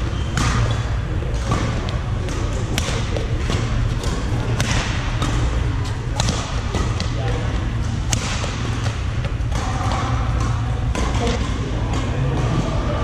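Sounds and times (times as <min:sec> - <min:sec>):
rackets striking shuttlecock: 0:00.0 - 0:12.6
steady low hum: 0:00.0 - 0:13.0.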